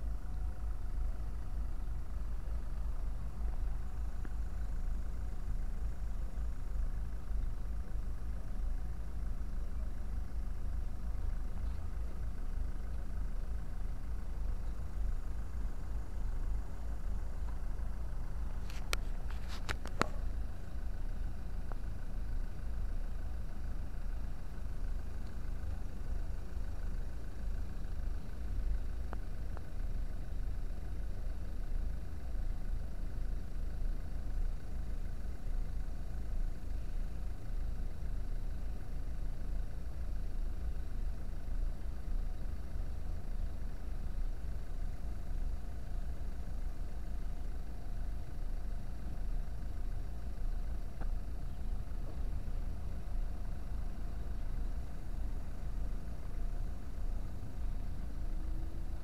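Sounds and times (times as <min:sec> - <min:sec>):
faint steady hum: 0:00.0 - 0:59.0
vehicle engines idling: 0:00.0 - 0:59.0.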